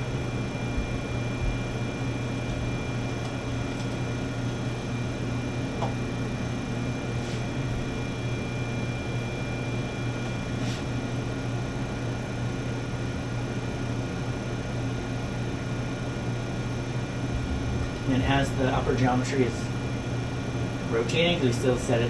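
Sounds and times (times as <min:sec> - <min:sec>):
laboratory equipment hum: 0:00.0 - 0:22.0.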